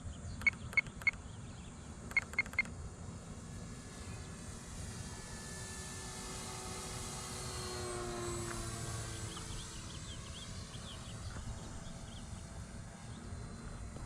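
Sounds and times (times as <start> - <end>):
model plane motor whining: 2.1 - 14.0.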